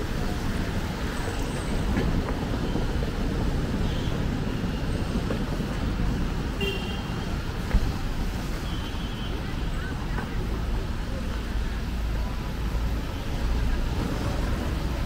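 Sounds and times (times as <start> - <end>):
busy city road traffic: 0.0 - 15.0.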